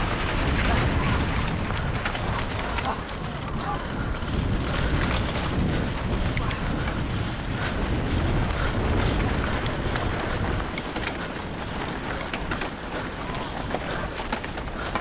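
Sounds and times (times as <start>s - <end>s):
small clicks and rattles: 0.0s - 15.0s
wind buffeting microphone: 0.0s - 15.0s.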